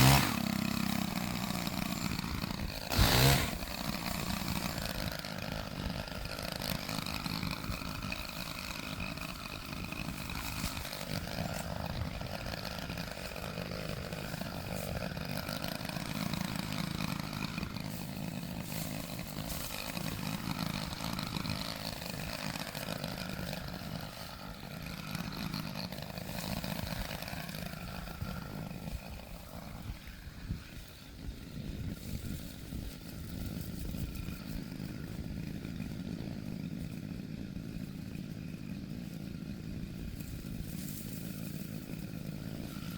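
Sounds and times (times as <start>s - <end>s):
chainsaw running: 0.0s - 42.9s.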